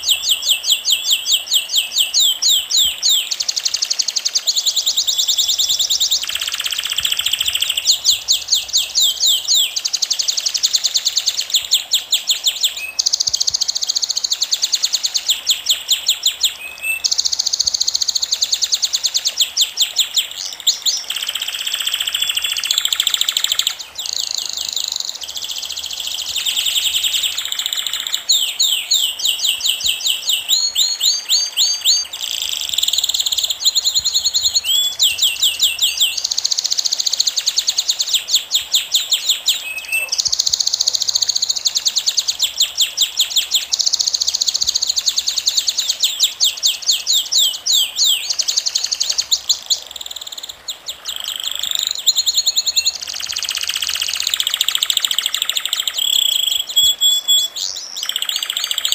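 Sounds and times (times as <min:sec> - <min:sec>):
birds singing high chirps and trills: 0:00.0 - 0:58.9.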